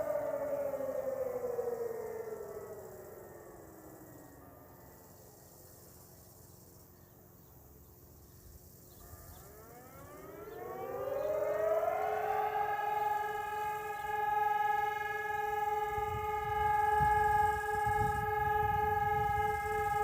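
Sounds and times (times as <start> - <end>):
civil defense siren wailing: 0.0 - 7.8, 8.8 - 20.0.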